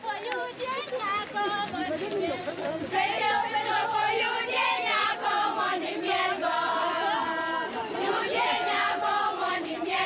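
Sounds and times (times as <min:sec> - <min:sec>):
group singing and chanting: 0:00.0 - 0:10.0.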